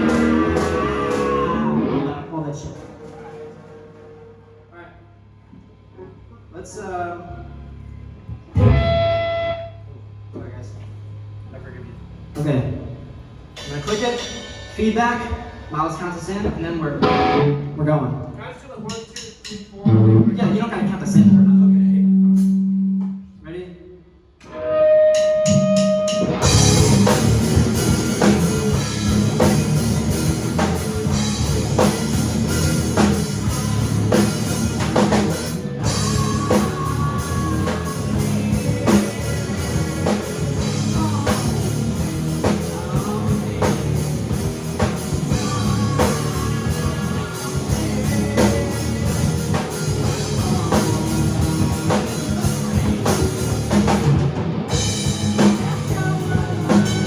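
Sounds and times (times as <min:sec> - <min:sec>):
rock band playing: 0:00.0 - 0:04.6, 0:08.6 - 0:09.6, 0:12.4 - 0:17.8, 0:19.1 - 0:21.5, 0:24.4 - 0:57.0
guitar feedback tone: 0:00.0 - 0:05.1, 0:07.3 - 0:10.2, 0:11.2 - 0:18.1, 0:19.8 - 0:23.2, 0:24.4 - 0:57.0.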